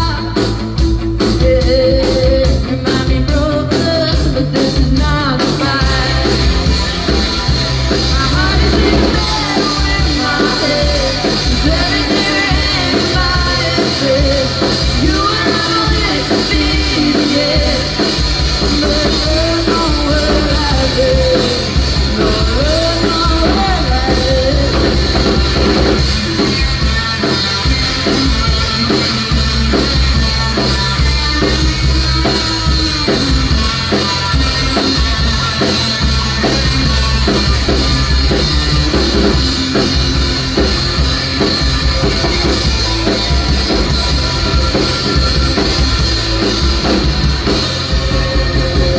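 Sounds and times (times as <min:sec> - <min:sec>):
person singing: 0:00.0 - 0:48.9
rock band playing live: 0:00.0 - 0:48.9.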